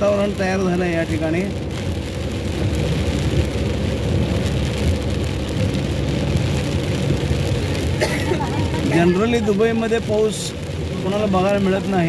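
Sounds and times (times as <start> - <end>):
car engine and road rumble: 0.0 - 12.0
heavy rain: 0.0 - 12.0
tyres hissing on wet road: 0.0 - 12.0.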